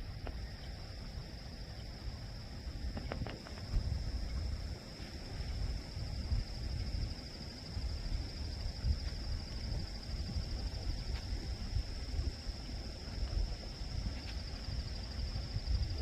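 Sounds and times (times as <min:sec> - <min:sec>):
high-pitched insect drone: 0:00.0 - 0:16.0
low uneven rumble: 0:00.0 - 0:16.0.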